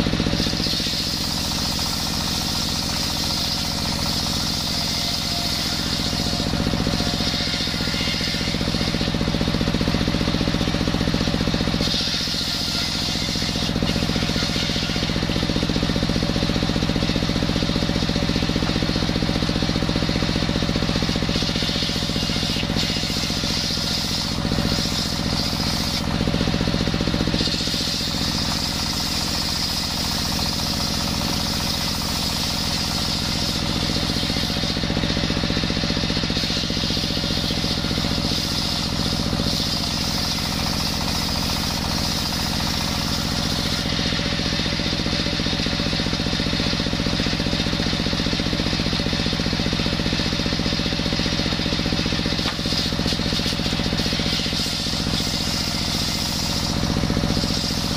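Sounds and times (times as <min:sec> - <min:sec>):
circular saw blade screaming: 0:00.0 - 0:57.9
saw engine running: 0:00.0 - 0:57.9.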